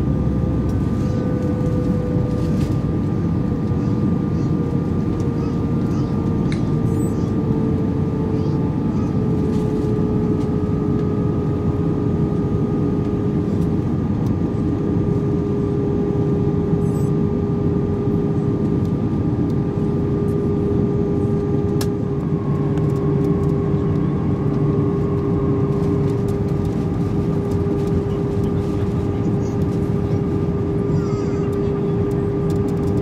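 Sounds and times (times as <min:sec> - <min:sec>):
jet engine droning hum: 0:00.0 - 0:33.0.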